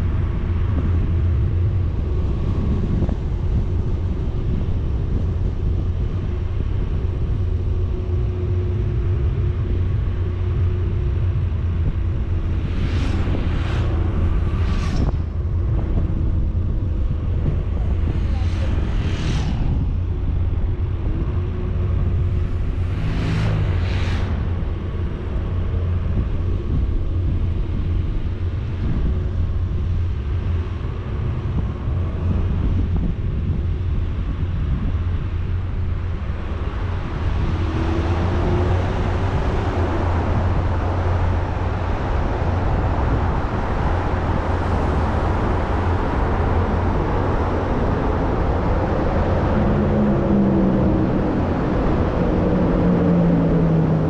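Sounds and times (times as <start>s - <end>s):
road and wind noise: 0.0s - 54.0s
vehicle engine rumble: 0.0s - 54.0s.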